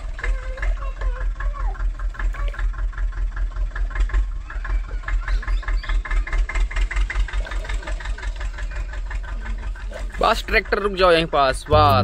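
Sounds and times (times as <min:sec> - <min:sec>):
toy tractor engine chugging: 0:00.0 - 0:12.0.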